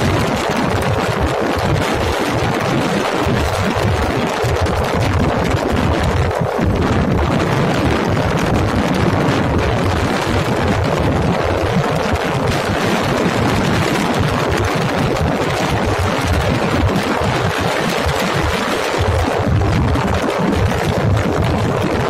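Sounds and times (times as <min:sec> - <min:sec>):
rushing wind: 0:00.0 - 0:22.0
vehicle engine and road noise: 0:00.0 - 0:22.0.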